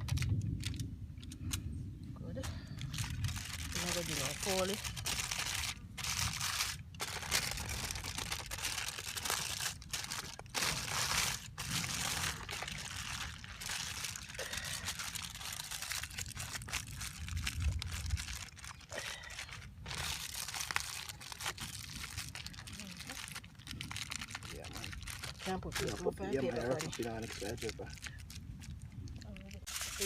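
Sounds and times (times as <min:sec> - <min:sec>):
aluminium foil crinkling: 0:00.0 - 0:01.6, 0:02.4 - 0:30.0.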